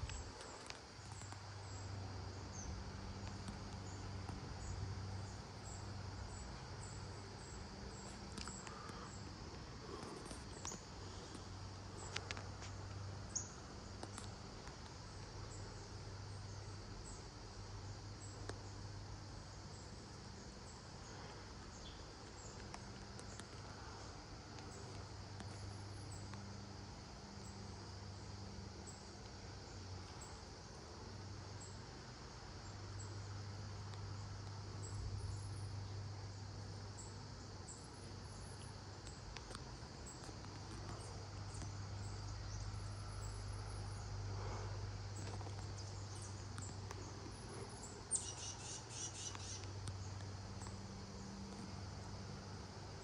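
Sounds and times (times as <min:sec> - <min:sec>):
crickets chirping: 0:00.0 - 0:53.0
low steady hum: 0:00.0 - 0:53.0.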